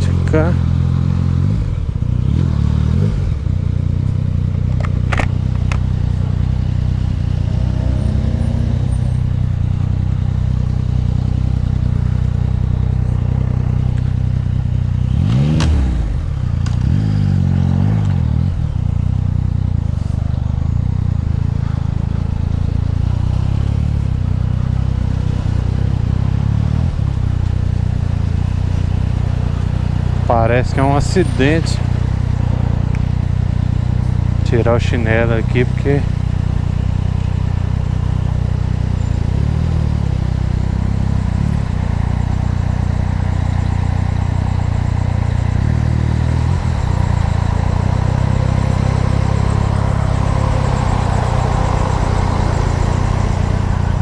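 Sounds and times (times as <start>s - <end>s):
motorcycle engine at low revs: 0.0s - 54.0s.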